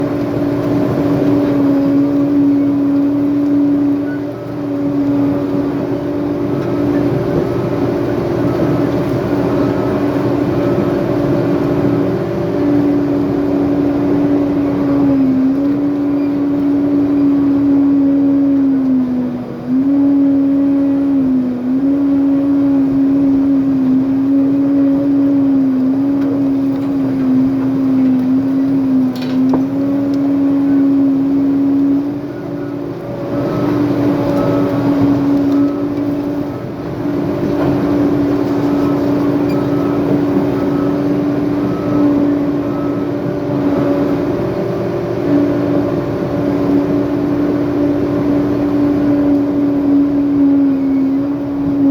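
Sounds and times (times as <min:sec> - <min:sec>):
diesel engine running hard: 0:00.0 - 0:51.9.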